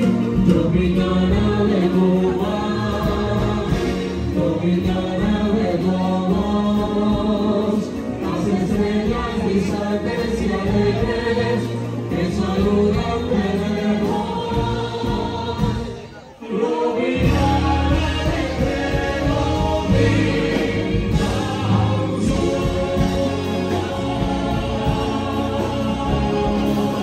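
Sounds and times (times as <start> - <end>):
group of voices singing: 0.0 - 27.0.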